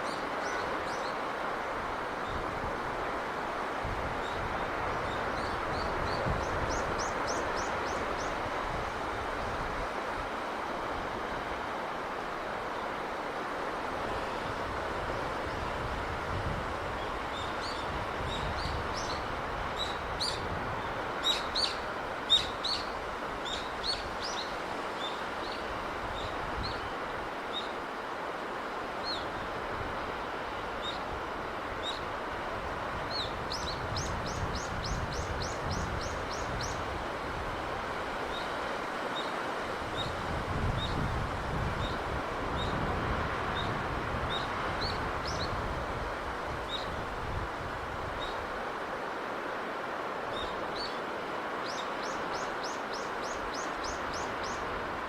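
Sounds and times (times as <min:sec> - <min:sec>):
sea surf and breeze hiss: 0:00.0 - 0:55.0.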